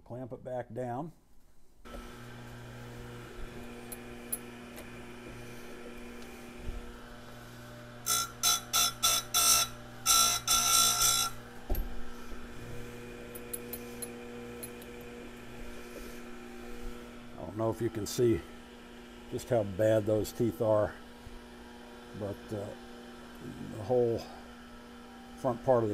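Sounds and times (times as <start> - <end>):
grinder motor humming: 1.9 - 25.9
grinding wheel harsh buzz: 1.9 - 25.9.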